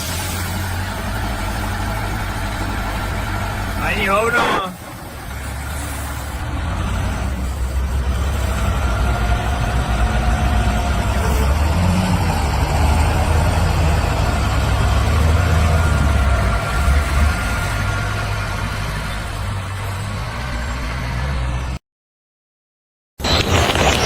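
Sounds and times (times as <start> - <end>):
engine running: 0.0 - 21.2.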